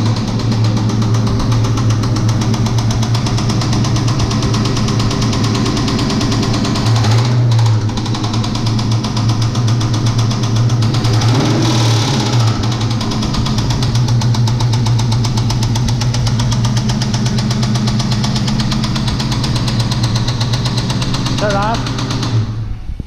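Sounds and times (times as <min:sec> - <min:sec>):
engine idling with rod knock: 0:00.0 - 0:22.6.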